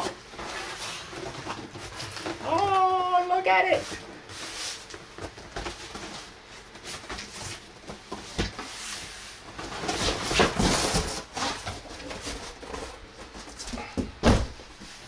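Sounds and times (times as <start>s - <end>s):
cardboard rustling and scraping: 0.0s - 15.0s.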